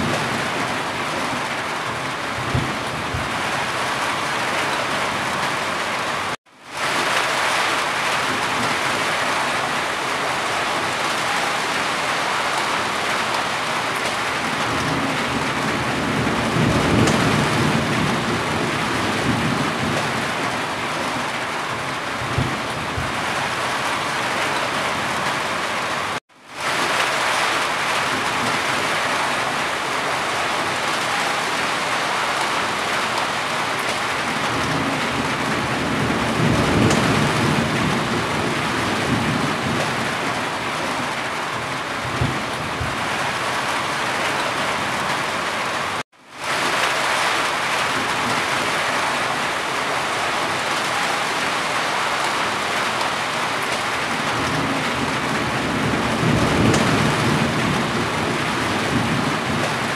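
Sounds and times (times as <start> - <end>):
heavy rain on corrugated roof: 0.0 - 59.9.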